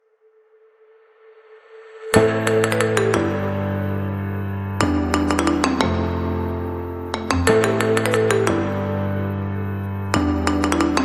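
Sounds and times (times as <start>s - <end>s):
held music tone: 2.2s - 11.0s.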